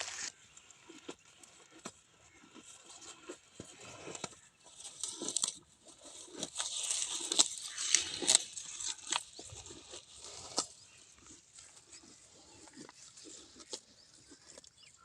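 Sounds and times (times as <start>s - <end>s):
cow tearing and chewing grass: 0.0s - 15.0s.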